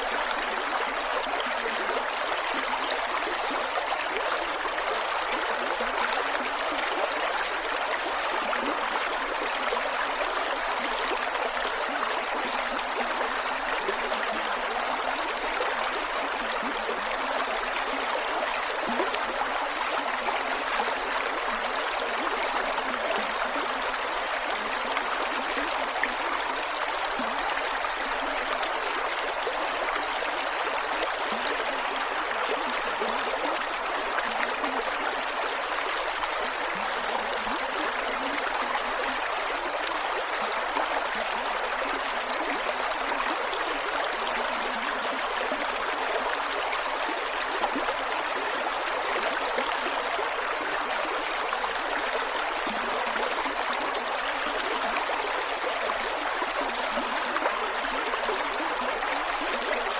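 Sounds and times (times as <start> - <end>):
creek water flowing over rocks: 0.0 - 59.9.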